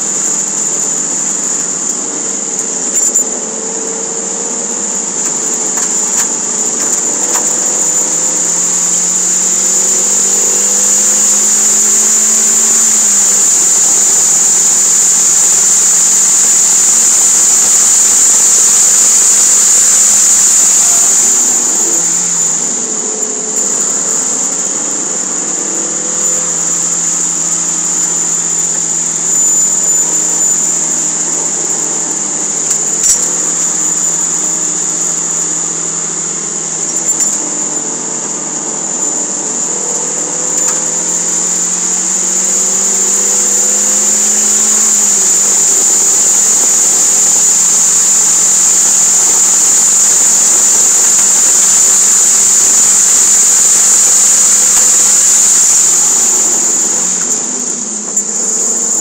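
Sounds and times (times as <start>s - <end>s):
high-pitched whine: 0.0s - 59.0s.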